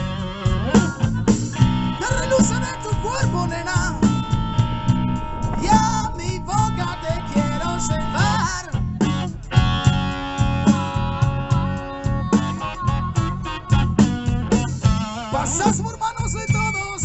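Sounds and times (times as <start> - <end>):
live blues band playing: 0.0 - 17.0
lead guitar bent notes: 1.2 - 15.3.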